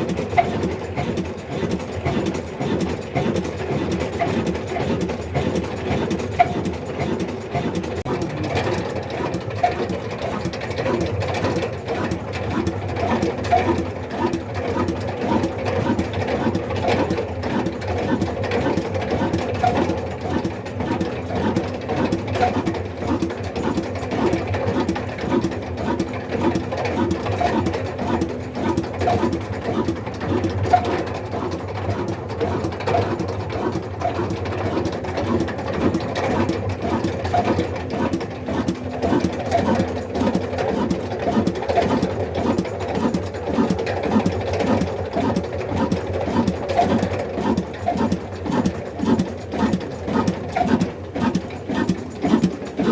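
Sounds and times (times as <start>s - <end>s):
diesel engine running slowly: 0.0s - 52.9s.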